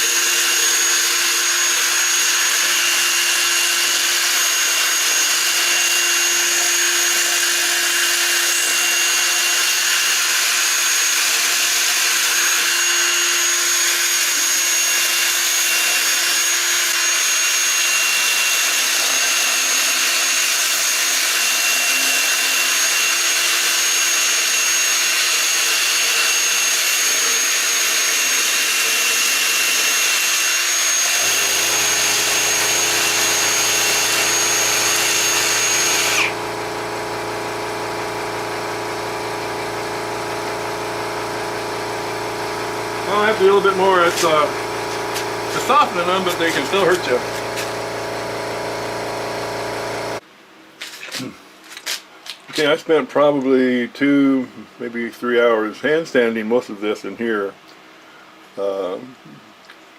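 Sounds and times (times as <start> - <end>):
lathe motor whine: 0.0 - 50.2.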